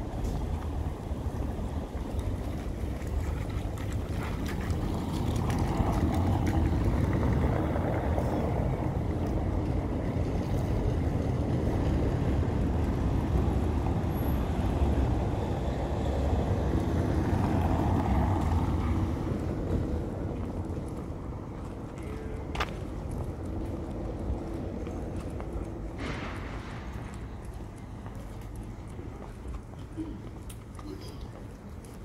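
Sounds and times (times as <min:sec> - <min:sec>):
city street rumble: 0:00.0 - 0:32.0.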